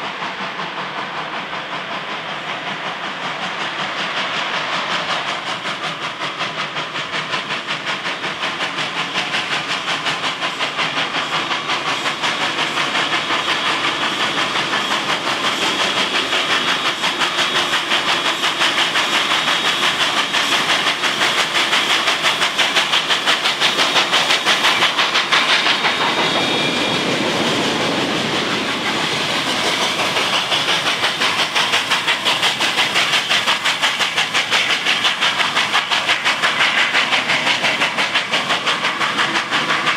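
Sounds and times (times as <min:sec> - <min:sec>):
steam hissing: 0:00.0 - 0:39.9
steam locomotive exhaust beating: 0:00.0 - 0:39.9.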